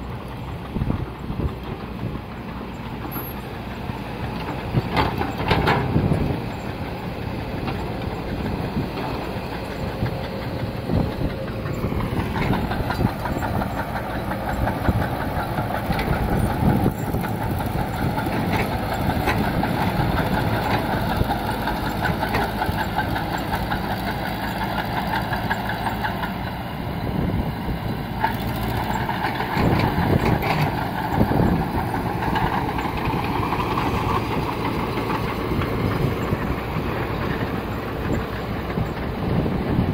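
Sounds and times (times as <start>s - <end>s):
clanks and knocks of tracks: 0.0s - 39.9s
diesel engines under load: 0.0s - 39.9s.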